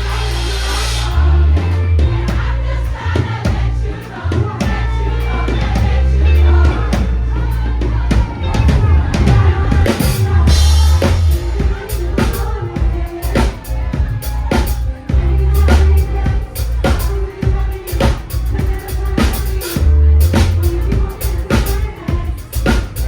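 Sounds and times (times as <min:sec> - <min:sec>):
bass guitar low notes: 0:00.0 - 0:23.0
drum kit: 0:00.0 - 0:23.0
voices singing together: 0:00.0 - 0:23.0.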